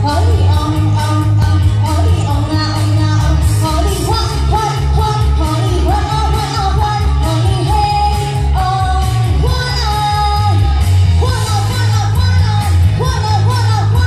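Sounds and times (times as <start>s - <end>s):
pop backing track with bass beat: 0.0s - 14.0s
woman singing into microphone: 0.0s - 14.0s.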